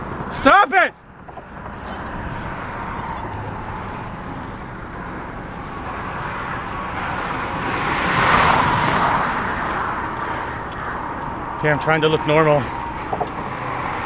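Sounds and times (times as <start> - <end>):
road traffic noise: 0.0 - 14.0
vehicle passing loudly: 1.1 - 14.0.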